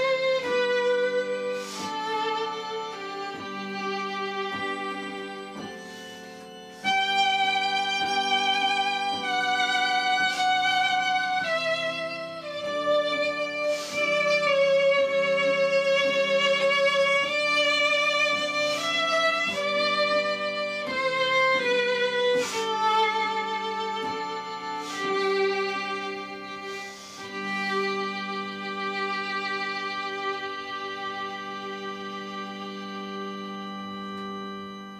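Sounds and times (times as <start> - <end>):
slow instrumental music: 0.0 - 34.9.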